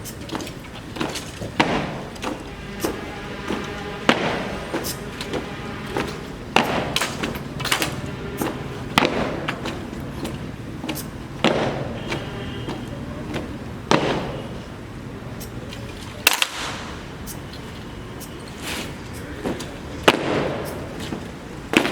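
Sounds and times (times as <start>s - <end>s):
rifles slapped and knocked: 0.0s - 14.7s, 15.4s - 17.4s, 18.2s - 21.9s.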